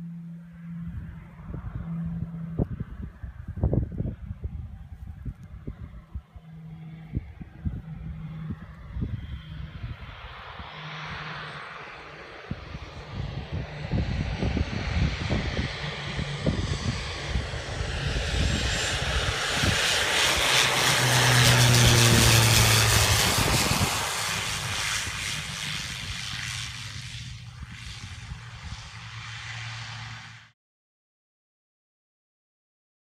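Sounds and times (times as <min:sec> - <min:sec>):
propeller plane flying past: 0:00.0 - 0:30.6.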